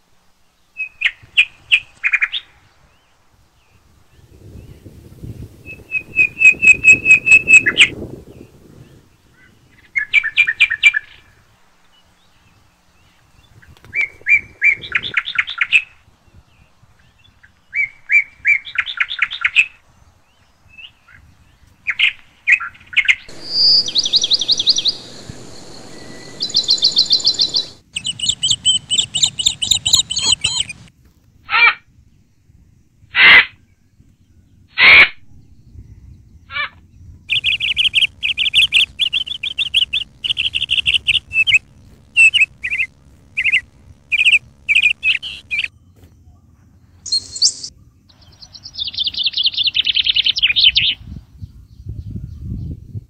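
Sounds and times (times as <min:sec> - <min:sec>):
birds singing high chirps: 0:00.5 - 0:30.9, 0:33.6 - 0:53.0.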